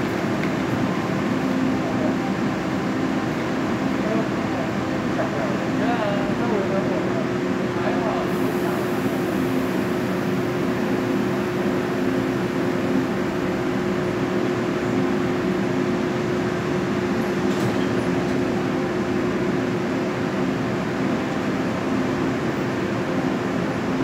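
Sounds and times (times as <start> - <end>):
air-conditioning units droning: 0.0 - 24.0
idling train hum: 0.0 - 24.0.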